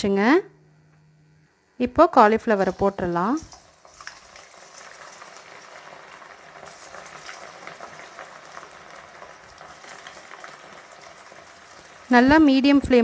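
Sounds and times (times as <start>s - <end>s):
food deep-frying in oil: 2.1s - 13.0s.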